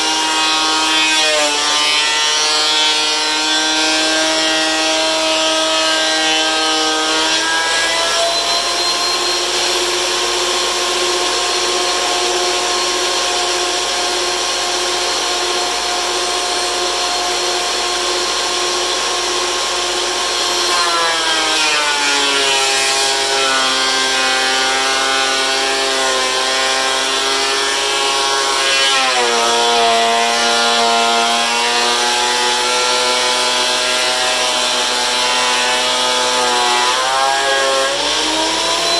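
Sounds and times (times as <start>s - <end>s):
thickness planer running: 0.0s - 38.9s.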